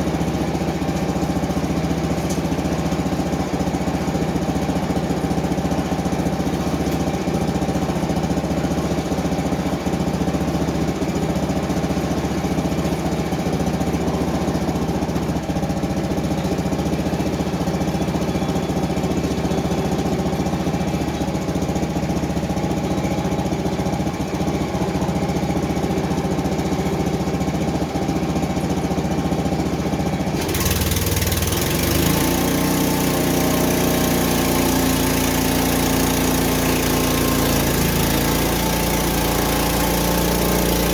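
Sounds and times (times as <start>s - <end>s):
small sawmill engine running: 0.0s - 40.9s.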